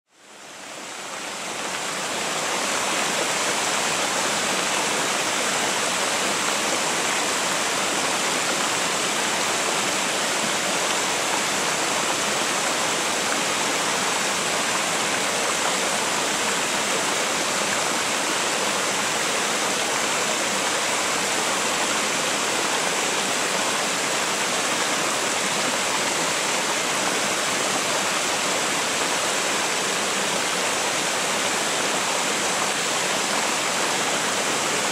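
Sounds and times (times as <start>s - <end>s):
river water cascading over weir: 0.1s - 34.9s.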